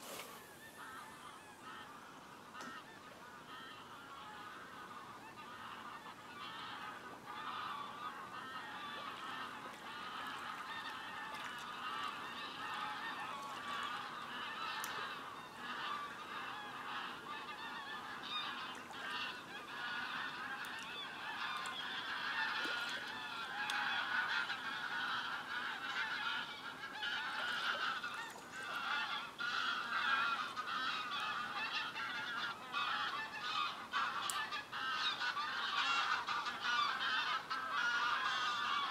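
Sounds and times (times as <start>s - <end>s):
geese honking: 0.5s - 38.9s.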